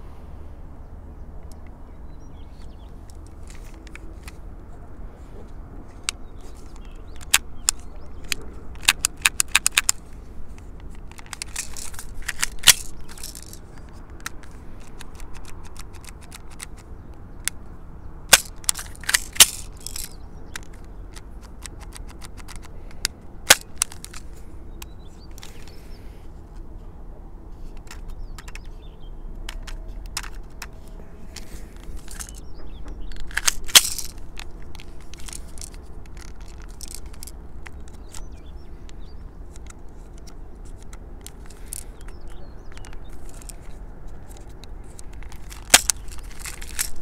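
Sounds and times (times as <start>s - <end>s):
pistol mechanical clicks and snaps: 2.4s - 4.5s, 5.5s - 17.7s, 18.3s - 25.9s, 27.6s - 47.0s.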